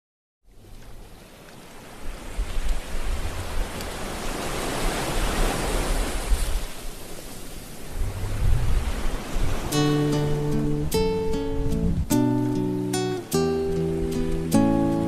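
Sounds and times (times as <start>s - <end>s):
waves breaking: 0.5s - 15.0s.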